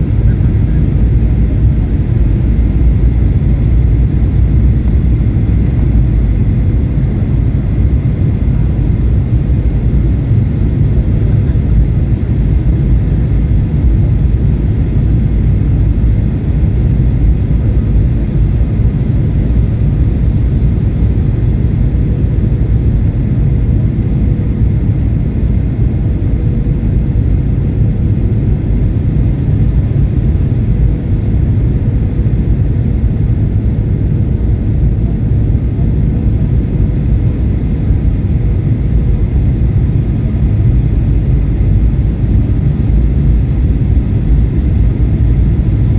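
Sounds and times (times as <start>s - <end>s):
jet airliner cabin drone: 0.0s - 45.9s.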